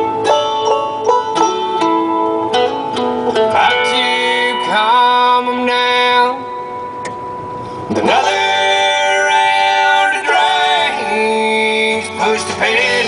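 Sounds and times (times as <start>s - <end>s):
country guitar music: 0.0s - 13.0s.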